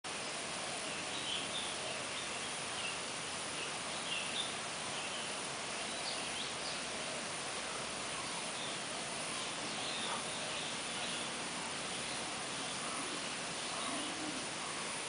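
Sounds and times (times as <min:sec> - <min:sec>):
steady outdoor hiss: 0:00.0 - 0:15.0
small birds chirping: 0:00.1 - 0:15.0.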